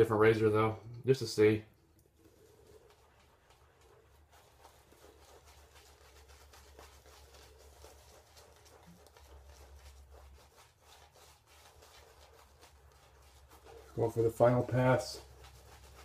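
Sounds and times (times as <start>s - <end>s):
shaving brush swishes: 2.1s - 16.0s.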